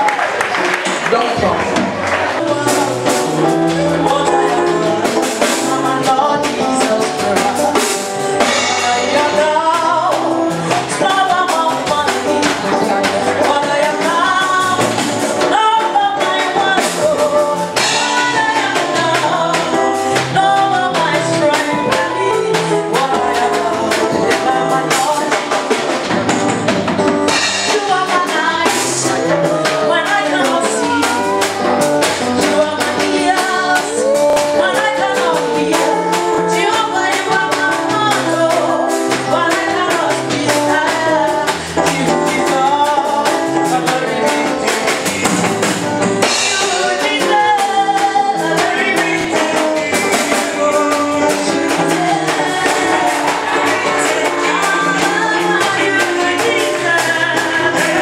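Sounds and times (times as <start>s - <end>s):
drum kit beat: 0.0s - 58.0s
person singing: 2.2s - 26.0s, 27.3s - 58.0s.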